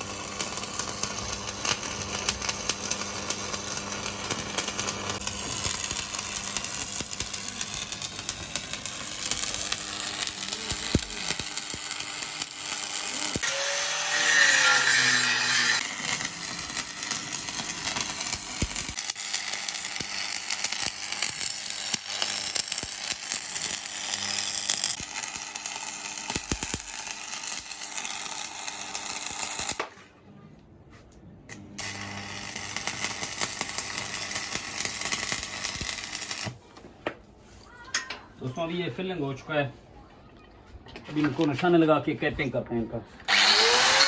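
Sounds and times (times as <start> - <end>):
welding arc crackling: 0.0 - 29.9, 31.5 - 36.6, 43.3 - 44.0.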